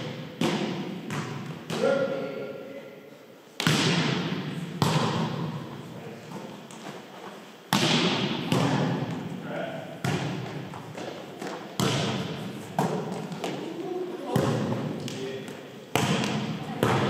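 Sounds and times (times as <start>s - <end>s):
volleyball hits echoing: 0.0s - 2.5s, 3.6s - 5.7s, 7.7s - 17.0s.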